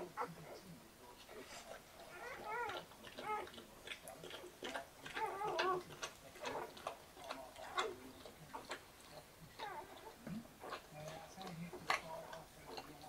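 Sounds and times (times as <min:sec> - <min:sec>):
puppies squeaking and whimpering: 0:00.0 - 0:00.6, 0:01.3 - 0:13.0
puppies suckling clicks: 0:02.2 - 0:13.0.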